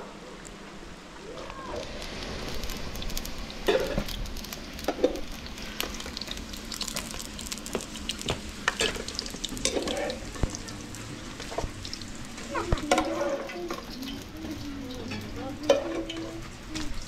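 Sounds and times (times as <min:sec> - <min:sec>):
vegetables sizzling in hot oil: 0:01.8 - 0:17.0.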